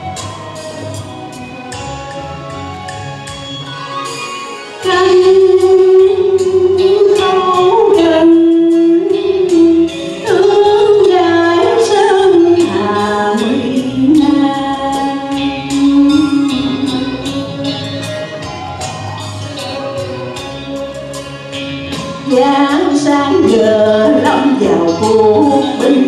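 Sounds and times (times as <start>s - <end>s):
instrumental accompaniment: 0.0s - 26.0s
woman singing with vibrato: 3.9s - 26.0s.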